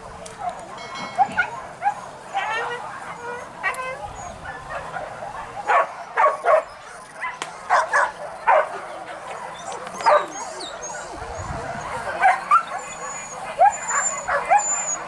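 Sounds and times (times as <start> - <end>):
dogs barking and yipping: 0.2 - 15.0.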